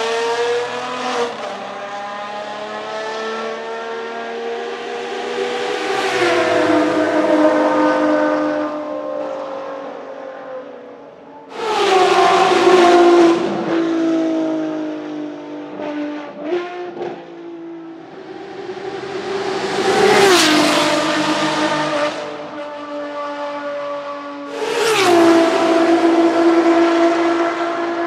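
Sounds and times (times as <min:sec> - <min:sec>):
car engines revving hard: 0:00.0 - 0:28.0.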